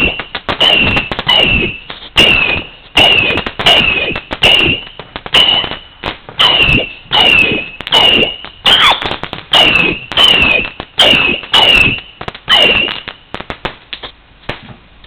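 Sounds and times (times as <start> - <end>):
fireworks cracking and whistling: 0.0 - 14.8.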